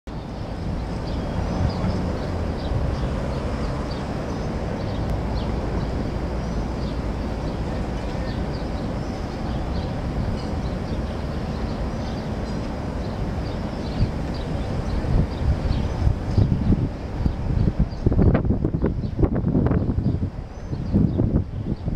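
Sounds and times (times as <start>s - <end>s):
distant traffic: 0.1s - 21.9s
wind on microphone: 0.1s - 21.9s.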